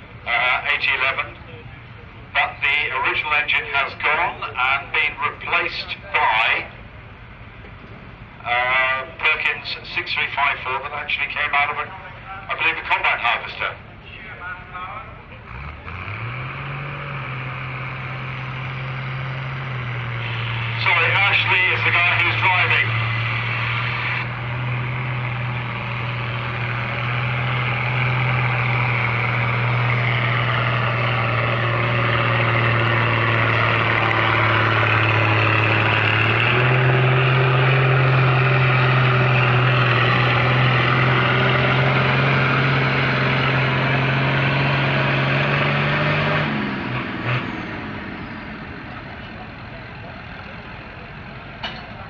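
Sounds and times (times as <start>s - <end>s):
diesel tractor engine running hard: 0.0s - 52.0s.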